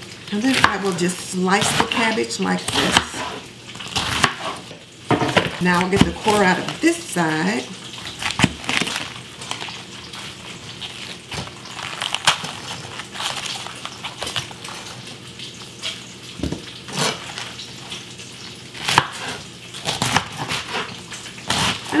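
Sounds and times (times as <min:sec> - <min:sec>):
bacon sizzling in a pan: 0:00.0 - 0:22.0
knife cutting cabbage: 0:00.3 - 0:06.9, 0:08.0 - 0:15.0, 0:16.4 - 0:17.6, 0:18.8 - 0:22.0.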